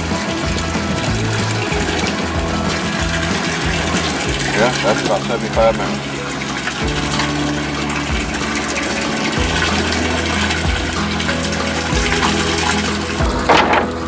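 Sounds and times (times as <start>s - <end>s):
water rushing and splashing: 0.0s - 14.0s.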